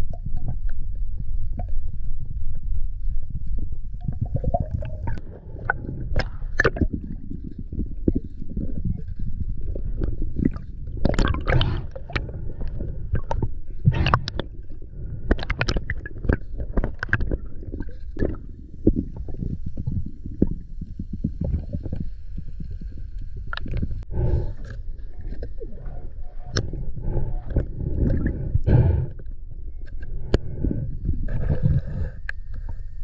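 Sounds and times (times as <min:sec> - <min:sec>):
sharp crackles and splashes: 0:00.0 - 0:30.4
underwater rumble of moving water: 0:00.0 - 0:33.0.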